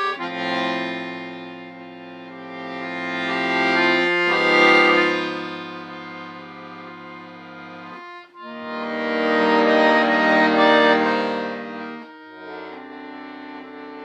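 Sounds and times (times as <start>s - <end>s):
accordion chords: 0.0s - 14.0s.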